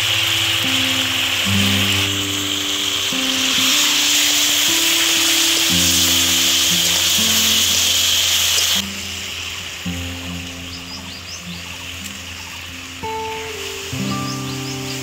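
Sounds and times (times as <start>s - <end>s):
background music: 0.0s - 15.0s
vegetables sizzling in a pan: 0.0s - 15.0s.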